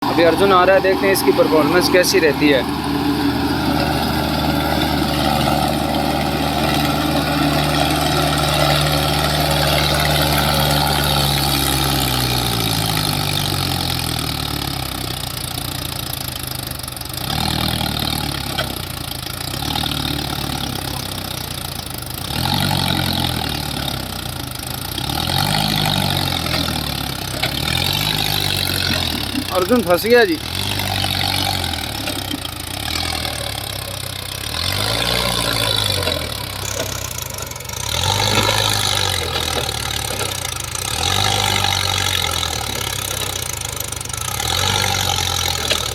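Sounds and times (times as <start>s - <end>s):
tractor engine labouring: 0.0s - 45.9s.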